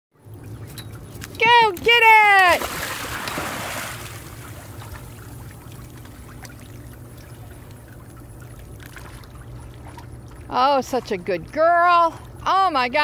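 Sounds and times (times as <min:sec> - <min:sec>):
steady low hum: 0:00.2 - 0:13.0
water trickling and lapping: 0:00.2 - 0:13.0.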